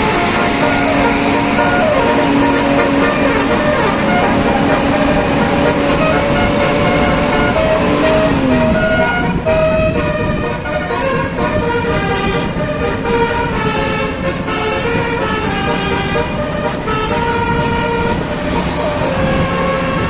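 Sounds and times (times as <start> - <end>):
multi-tone musical bus horn: 0.0 - 20.0
road and engine noise: 0.0 - 20.0.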